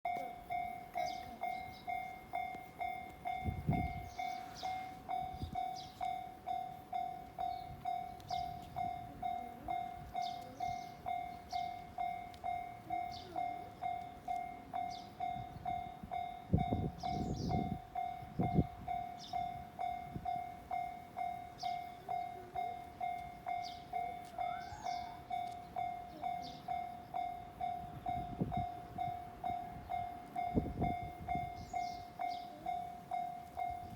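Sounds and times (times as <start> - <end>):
level-crossing warning bell: 0.1 - 33.9.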